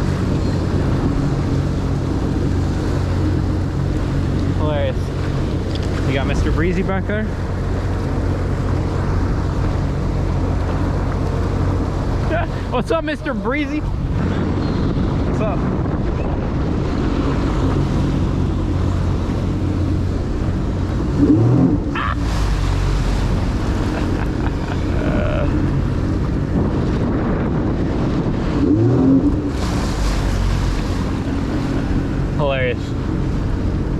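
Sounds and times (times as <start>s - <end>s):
jet ski engine running: 0.0s - 33.9s
wind buffeting microphone: 0.0s - 33.9s.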